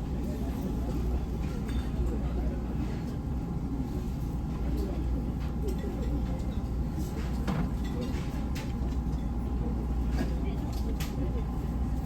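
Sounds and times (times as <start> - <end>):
faint murmur of voices: 0.0 - 12.0.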